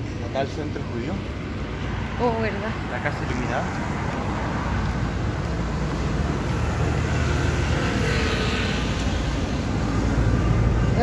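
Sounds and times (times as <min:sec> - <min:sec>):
passing vehicles road noise: 0:00.0 - 0:11.0.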